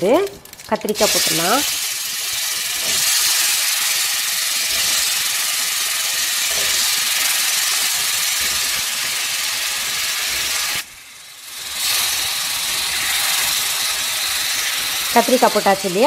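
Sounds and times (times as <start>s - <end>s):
eggplant sizzling in hot oil: 0.0s - 16.0s.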